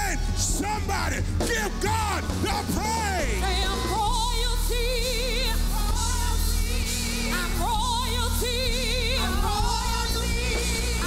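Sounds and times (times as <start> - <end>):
live band with bass line: 0.0 - 11.0
women singing gospel: 1.5 - 11.0.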